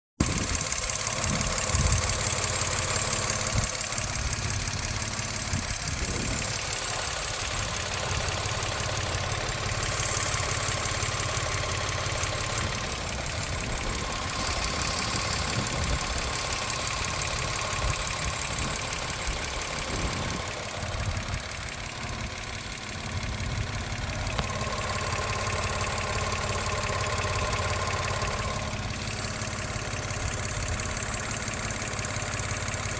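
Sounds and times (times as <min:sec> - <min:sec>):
car engine idling: 0:00.2 - 0:32.9.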